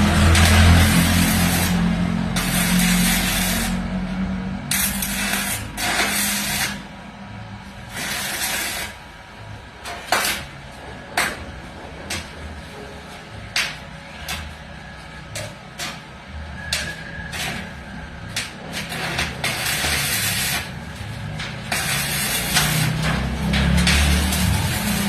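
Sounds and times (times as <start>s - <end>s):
welding arc hissing and crackling: 0.0s - 7.0s, 7.6s - 11.3s, 15.3s - 25.0s.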